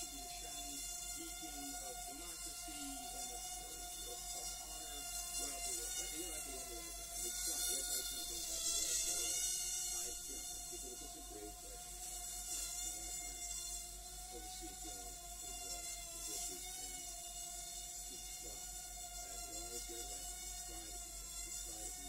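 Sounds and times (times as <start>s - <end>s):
drone motors buzzing: 0.0s - 22.0s
thin electrical tone: 0.0s - 22.0s.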